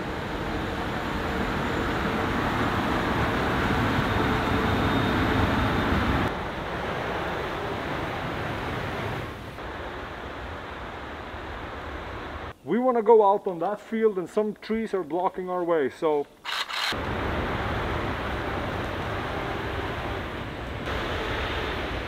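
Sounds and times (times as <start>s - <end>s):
motor fans rushing: 0.0s - 12.5s, 16.5s - 22.0s.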